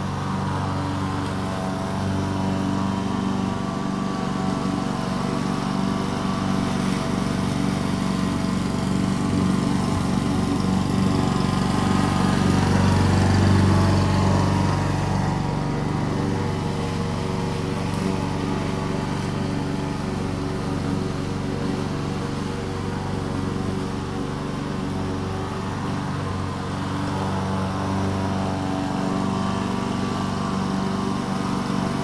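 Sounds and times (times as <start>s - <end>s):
lawn mower cutting grass: 0.0s - 32.0s.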